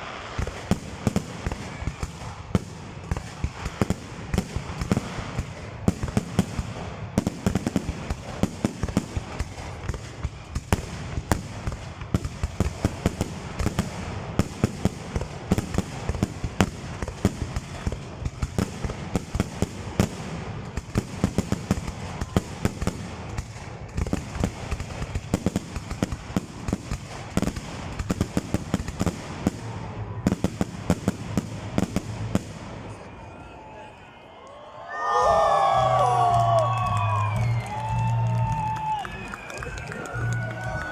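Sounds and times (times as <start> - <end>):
fireworks bursting: 0.0 - 34.1, 35.4 - 40.9.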